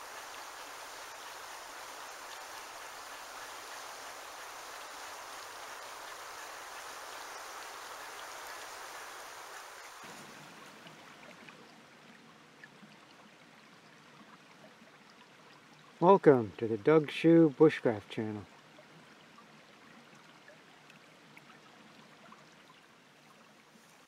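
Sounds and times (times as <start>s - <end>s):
stream trickling over stones: 0.0s - 24.0s.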